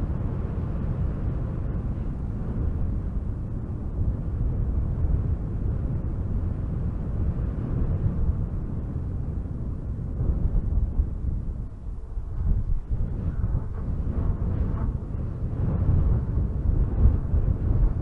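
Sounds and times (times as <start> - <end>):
strong wind through trees: 0.0 - 18.0.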